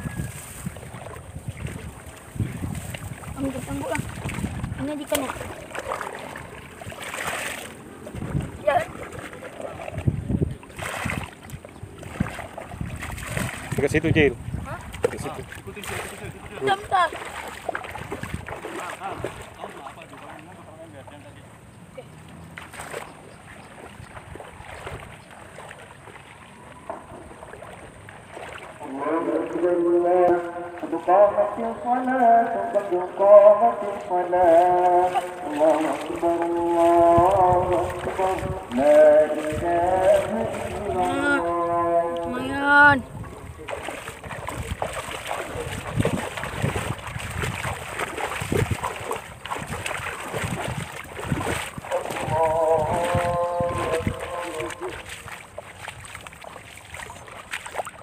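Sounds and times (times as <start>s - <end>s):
wading through muddy water: 0.0s - 58.0s.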